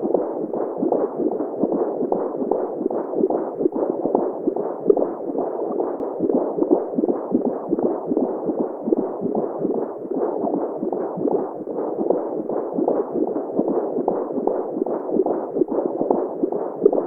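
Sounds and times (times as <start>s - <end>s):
heartbeat pulse: 0.0s - 17.0s.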